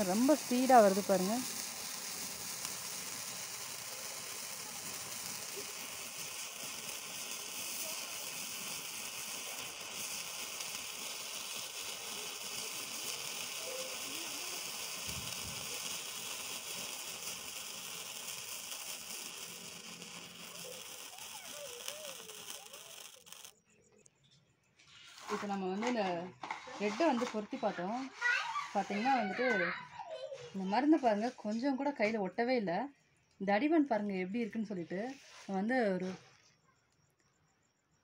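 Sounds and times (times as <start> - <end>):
sparkler fizzing and crackling: 0.0 - 23.6, 25.1 - 29.8, 33.9 - 36.2.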